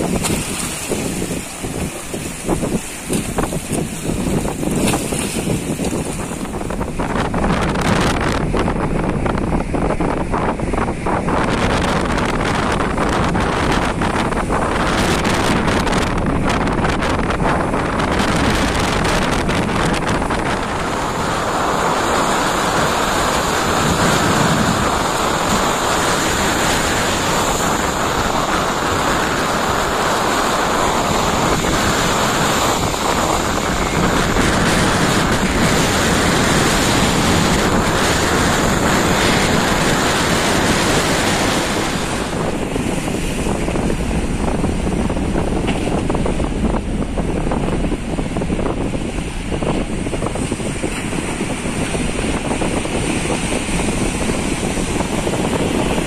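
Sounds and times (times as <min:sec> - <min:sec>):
sea surf breaking: 0:00.0 - 0:56.0
wind buffeting microphone: 0:00.0 - 0:56.0.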